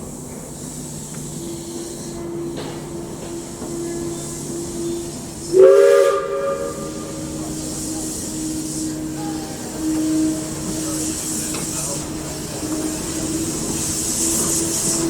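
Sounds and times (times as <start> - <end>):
steam hissing: 0.0 - 15.0
steam locomotive whistle: 1.2 - 15.0.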